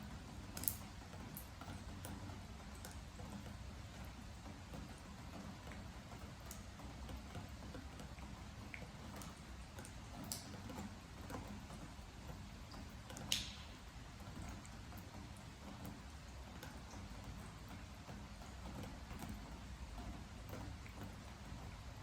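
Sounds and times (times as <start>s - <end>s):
faint steady rain: 0.0s - 22.0s
raindrops dripping on wooden deck: 0.0s - 22.0s.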